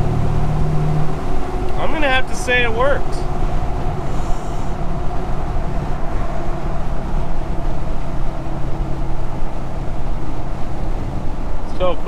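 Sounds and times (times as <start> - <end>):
faint even drone: 0.0 - 12.0
road and engine rumble in cab: 0.0 - 12.0.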